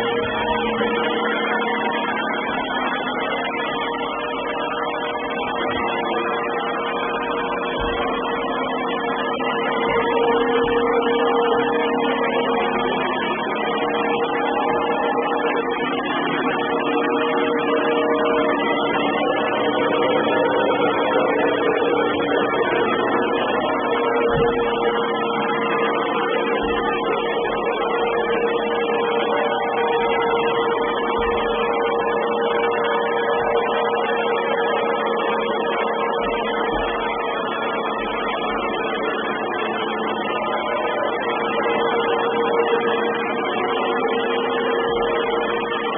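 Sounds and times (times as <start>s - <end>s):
robot vacuum cleaner running: 0.0s - 45.9s.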